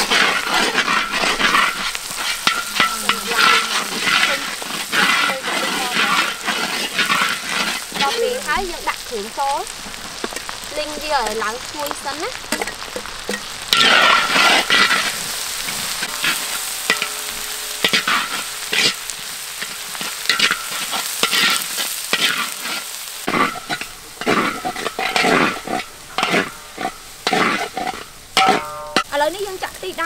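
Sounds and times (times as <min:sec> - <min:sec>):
metal ladle scraping a wok: 0:00.0 - 0:29.2
food sizzling in hot oil: 0:00.0 - 0:30.0.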